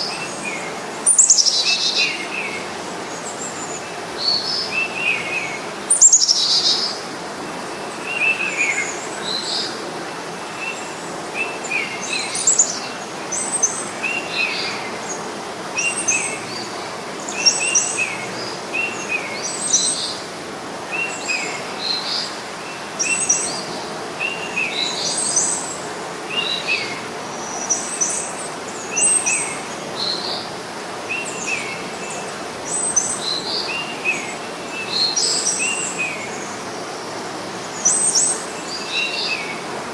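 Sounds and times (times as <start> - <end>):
birds chirping: 0.0 - 39.9
steady background hiss: 0.0 - 39.9.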